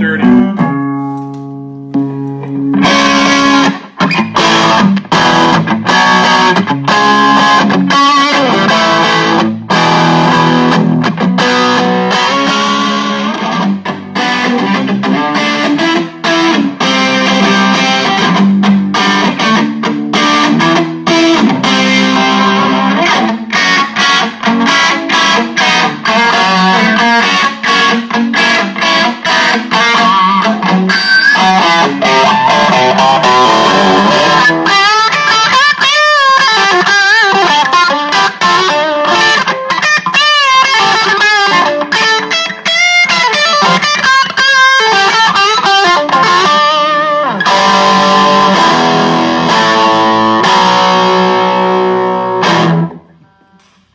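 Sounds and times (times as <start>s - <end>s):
electric guitar chord: 0.0s - 35.5s, 45.8s - 53.9s
electric guitar riff: 0.0s - 53.9s.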